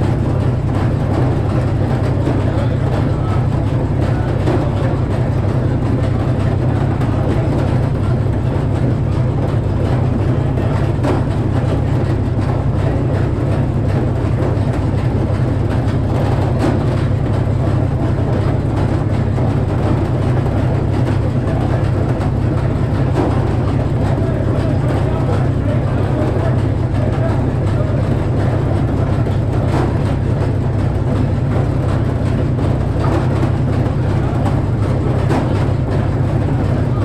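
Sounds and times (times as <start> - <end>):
sawmill engine drone: 0.0 - 37.0.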